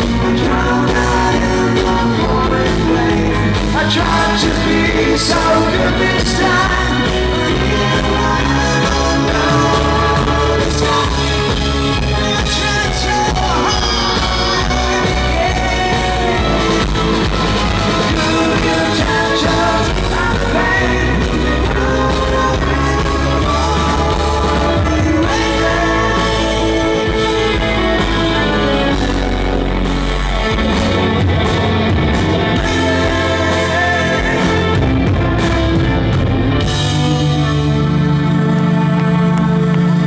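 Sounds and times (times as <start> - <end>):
bass: 0.0 - 40.0
drums: 0.0 - 40.0
electric guitar: 0.0 - 40.0
electric violin: 0.0 - 40.0
person singing: 0.0 - 40.0.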